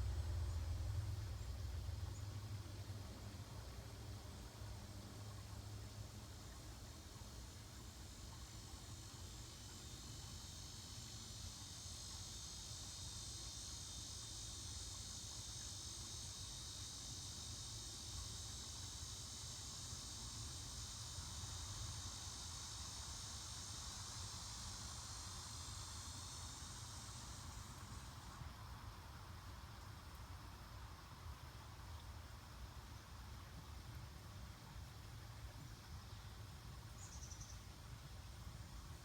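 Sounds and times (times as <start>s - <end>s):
high-pitched insect chorus: 0.0s - 2.9s, 5.7s - 33.2s, 35.3s - 39.0s.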